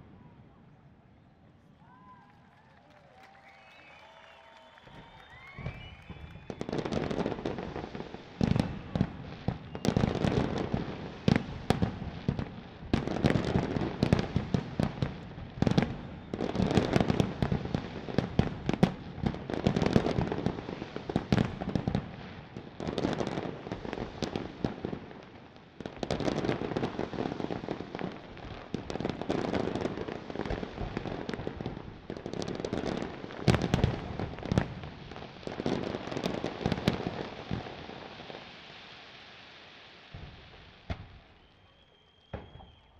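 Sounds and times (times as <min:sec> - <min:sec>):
fireworks bangs and crackling: 0:03.2 - 0:42.9.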